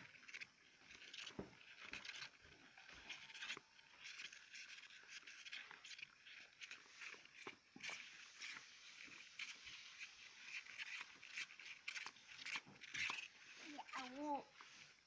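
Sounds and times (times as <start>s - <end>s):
claws scratching on plastic: 0.0s - 15.0s.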